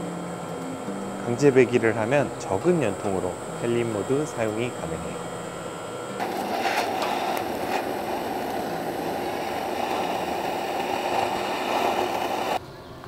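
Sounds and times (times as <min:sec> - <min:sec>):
exhaust fan rushing: 0:00.0 - 0:12.6.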